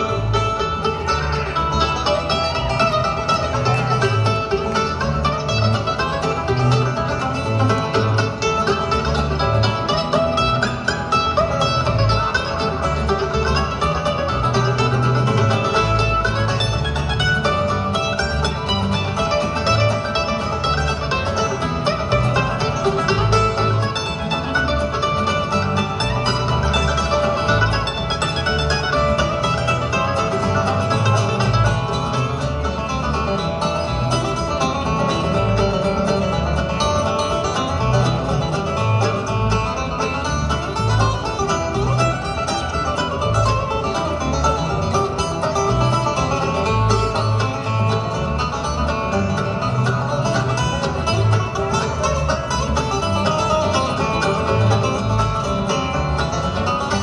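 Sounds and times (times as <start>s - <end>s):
bluegrass band playing: 0.0s - 57.0s.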